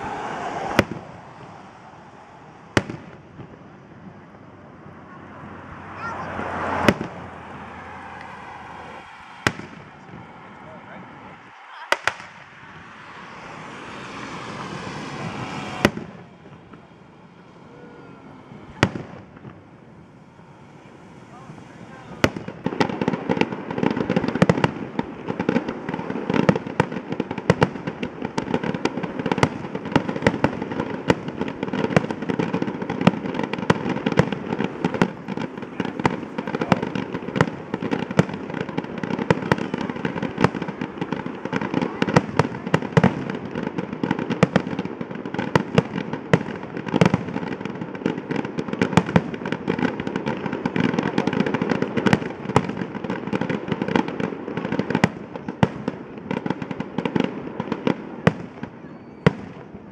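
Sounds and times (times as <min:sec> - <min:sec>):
fireworks bangs: 0:00.0 - 0:59.9
fireworks rumble and crackle: 0:00.0 - 0:59.9.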